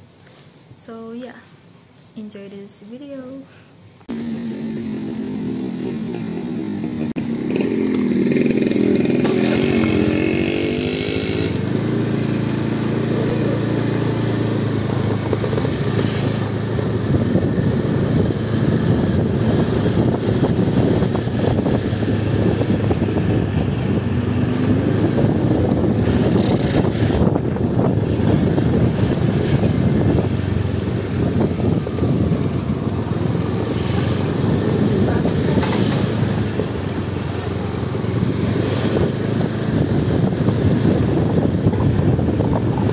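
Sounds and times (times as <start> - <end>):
wind and road noise: 0.0 - 42.9
motorbike engine running: 4.1 - 42.9.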